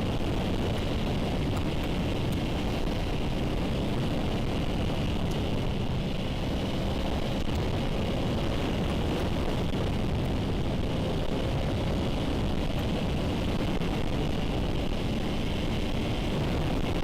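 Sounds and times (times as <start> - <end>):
motorcycle engine: 0.0 - 17.0
wind and road noise: 0.0 - 17.0.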